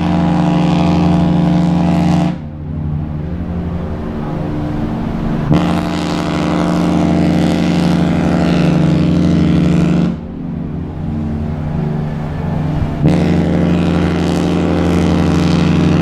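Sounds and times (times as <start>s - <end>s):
low drone: 0.0s - 16.0s
ship horn blast: 0.0s - 16.0s.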